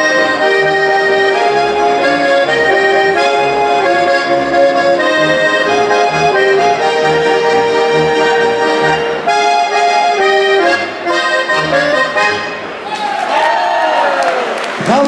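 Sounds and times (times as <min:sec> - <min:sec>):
plucked double bass: 0:00.0 - 0:12.5
accordions playing chords: 0:00.0 - 0:12.8.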